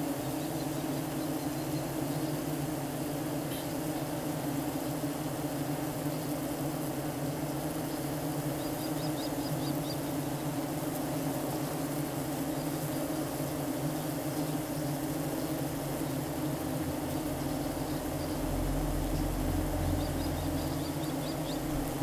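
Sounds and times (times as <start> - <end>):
bees droning: 0.0 - 22.0.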